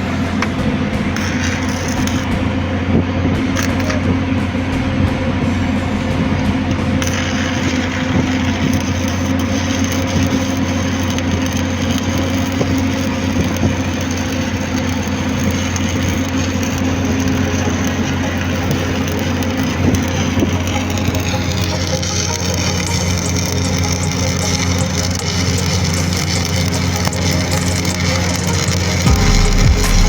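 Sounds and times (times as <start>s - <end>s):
low welding hum: 0.0s - 30.0s
welding arc crackling: 0.0s - 30.0s.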